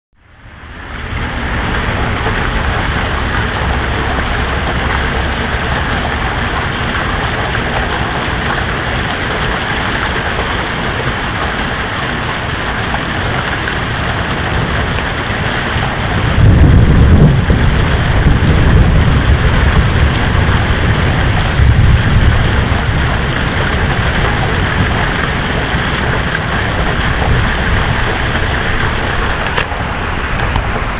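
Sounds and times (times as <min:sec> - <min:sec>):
steady rain hiss: 0:00.2 - 0:30.9
thunder rumbling: 0:00.5 - 0:30.9.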